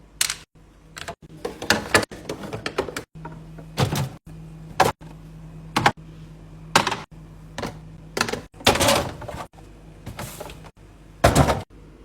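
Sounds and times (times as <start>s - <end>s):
low steady hum: 0.0s - 12.0s
items clacking in a refrigerator: 0.2s - 6.0s, 6.7s - 11.7s.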